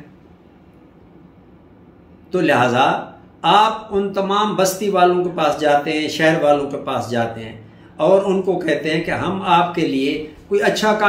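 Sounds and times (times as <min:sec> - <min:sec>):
low steady hiss and hum: 0:00.0 - 0:11.0.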